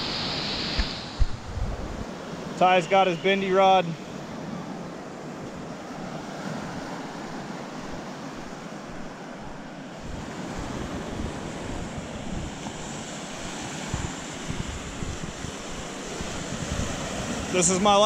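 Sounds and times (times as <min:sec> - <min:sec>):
wind buffeting microphone: 0:00.0 - 0:02.4, 0:04.2 - 0:18.0
waves breaking on beach: 0:00.0 - 0:18.0.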